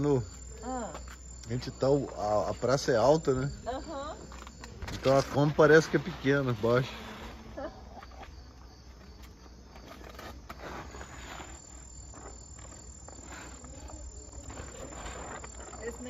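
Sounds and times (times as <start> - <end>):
crickets chirping: 0.0 - 16.0
thin high insect trill: 0.0 - 16.0.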